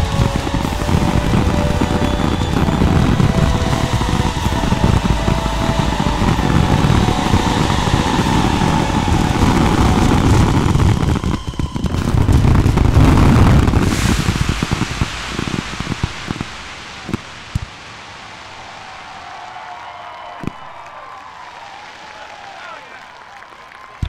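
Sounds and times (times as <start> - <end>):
fireworks bangs and crackling: 0.0 - 23.2.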